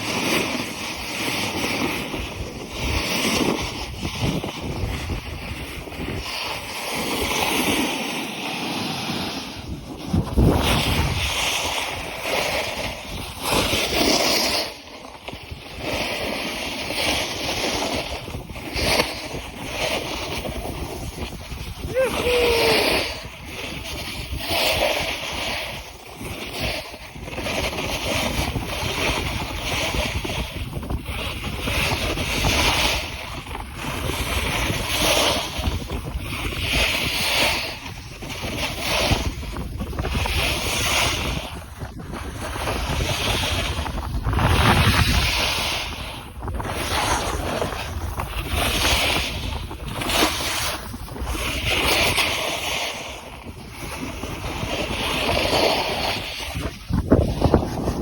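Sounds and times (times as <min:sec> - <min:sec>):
wind buffeting microphone: 0:00.0 - 0:08.0, 0:09.1 - 0:58.0.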